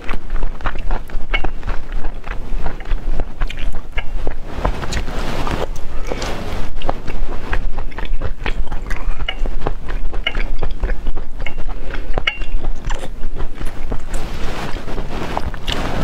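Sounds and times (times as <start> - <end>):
wet chewing and mouth clicks: 0.0 - 16.0.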